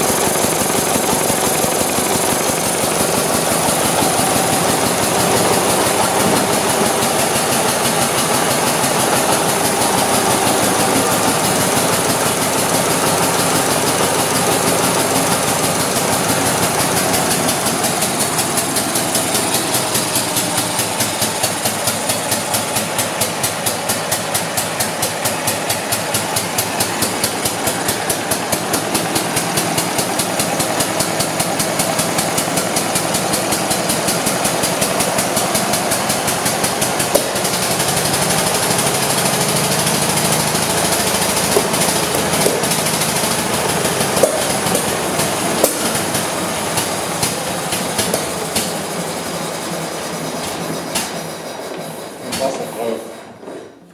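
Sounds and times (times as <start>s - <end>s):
valve gear clattering: 0.0s - 49.2s
stationary engine running: 0.0s - 53.0s.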